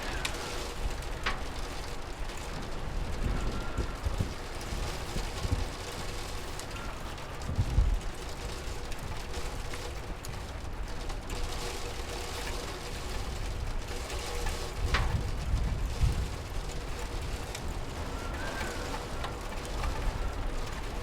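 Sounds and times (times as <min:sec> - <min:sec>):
rain: 0:00.0 - 0:21.0.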